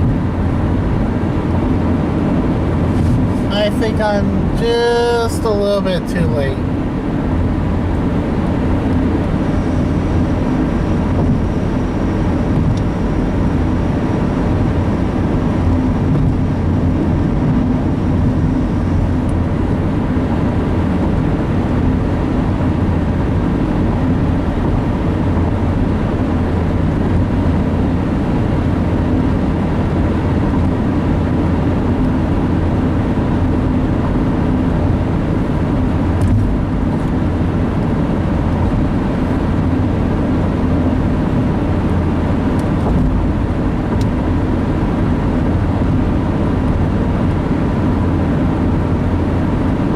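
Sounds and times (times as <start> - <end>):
car road and engine noise: 0.0 - 49.9.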